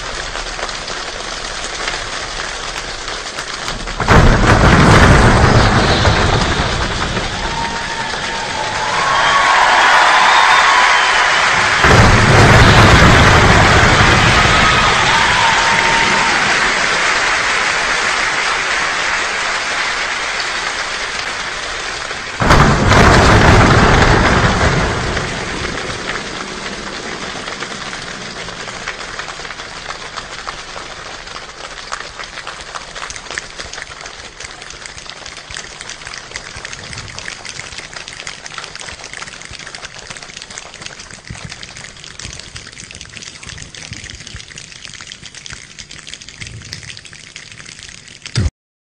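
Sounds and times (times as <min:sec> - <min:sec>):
people making rain-like patter: 0:00.0 - 0:48.5.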